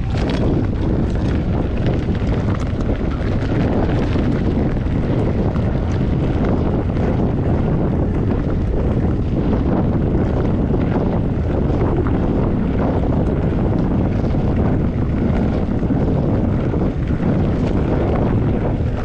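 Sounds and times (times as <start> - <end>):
tyres crackling on trail: 0.0 - 19.0
wind buffeting microphone: 0.0 - 19.0.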